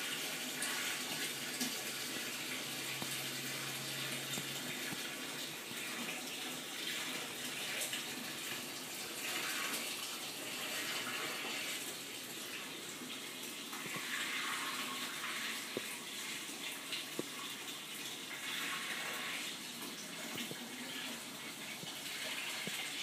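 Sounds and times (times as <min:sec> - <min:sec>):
water splashing from tank filter: 0:00.0 - 0:23.0.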